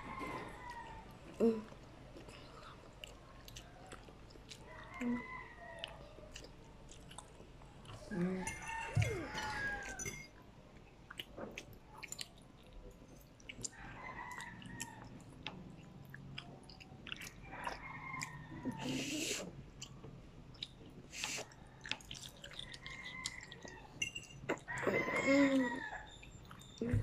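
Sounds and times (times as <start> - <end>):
child chewing wetly: 0.0 - 27.0.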